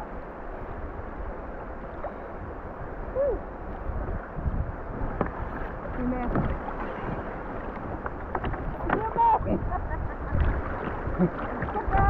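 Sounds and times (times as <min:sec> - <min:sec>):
water washing around kayak: 0:00.0 - 0:12.0
wind rumbling on microphone: 0:00.0 - 0:12.0.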